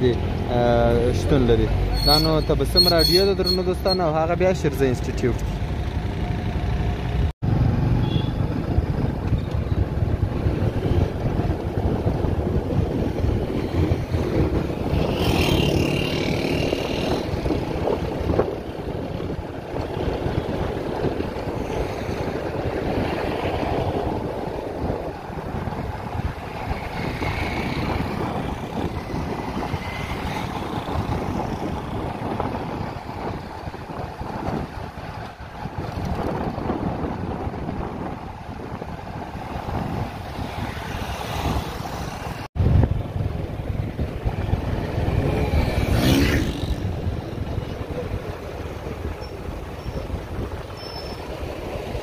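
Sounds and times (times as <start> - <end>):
vehicle engine and tyres rumbling: 0.0 - 52.0
wind buffeting microphone: 8.4 - 52.0.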